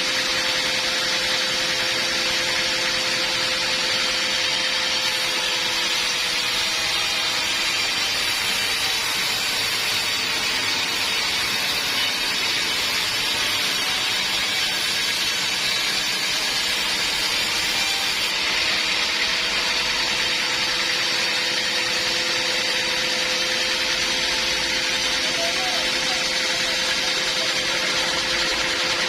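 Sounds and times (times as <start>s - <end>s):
bandsaw running: 0.0s - 29.0s.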